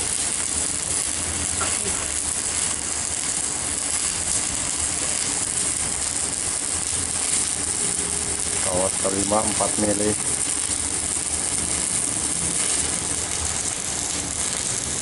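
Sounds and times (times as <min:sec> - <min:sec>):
welding arc crackling hiss: 0:00.0 - 0:15.0.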